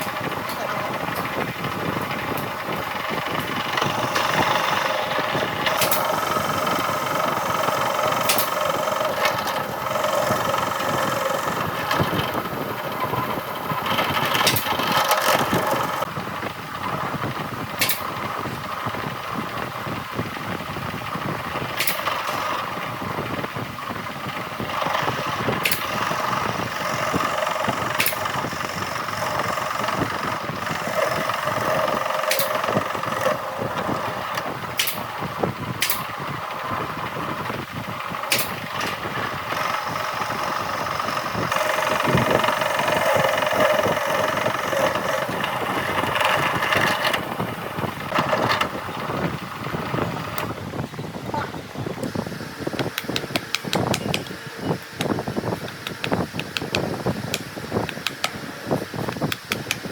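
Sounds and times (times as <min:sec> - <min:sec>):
power tool motor running: 0:00.0 - 0:16.1, 0:23.9 - 0:37.3, 0:38.0 - 0:50.6, 0:51.2 - 0:59.9.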